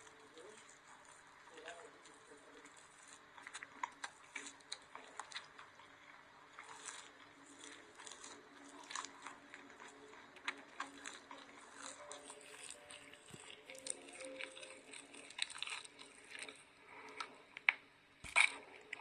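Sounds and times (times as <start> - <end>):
soap being bitten and chewed: 0.0 - 19.0.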